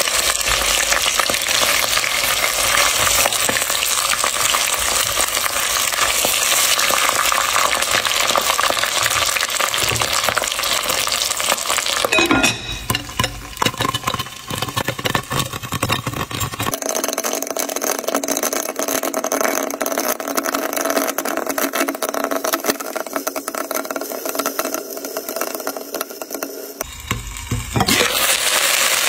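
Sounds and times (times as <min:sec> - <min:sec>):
food simmering and crackling in pot: 0:00.0 - 0:29.0.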